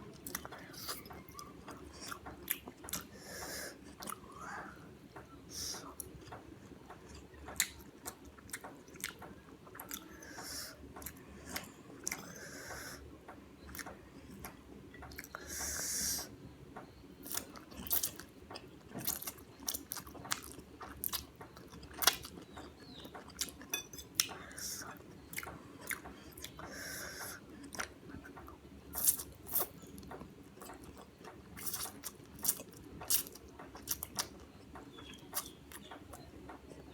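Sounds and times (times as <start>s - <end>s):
person chewing food: 0.1s - 36.9s.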